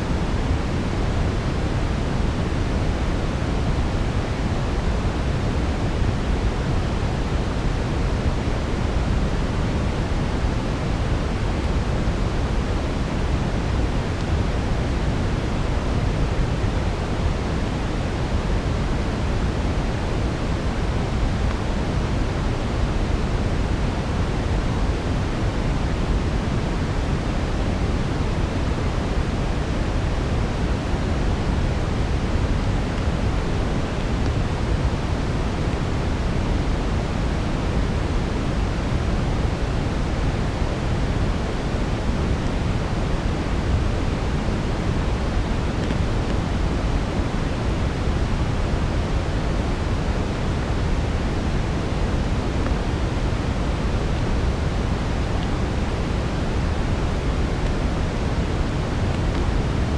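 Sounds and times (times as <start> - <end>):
steady brown noise: 0.0 - 59.9.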